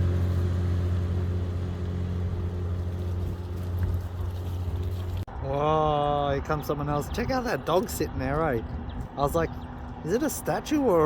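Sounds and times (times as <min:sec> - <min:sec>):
vehicle engine humming: 0:00.0 - 0:05.3, 0:06.6 - 0:11.0.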